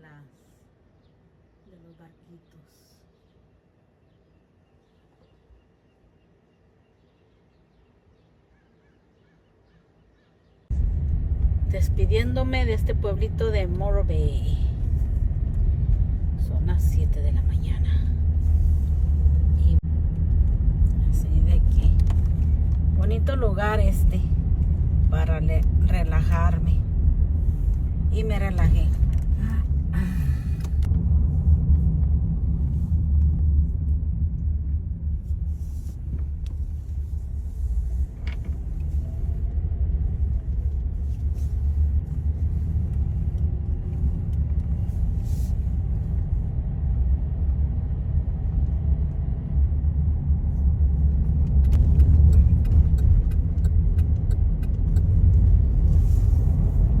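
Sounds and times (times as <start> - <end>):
car interior rumble: 10.7 - 57.0.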